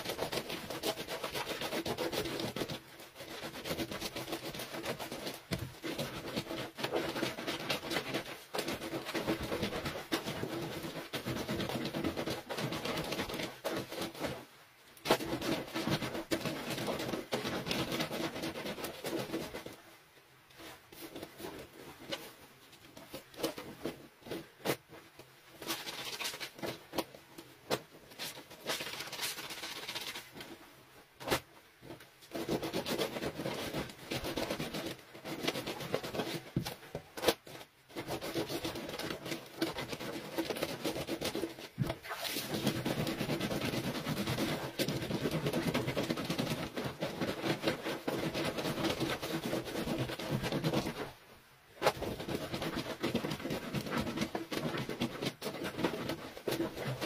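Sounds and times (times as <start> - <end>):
clothes scrubbed on washboard: 0.0 - 19.8, 20.5 - 30.6, 31.2 - 51.2, 51.8 - 57.0.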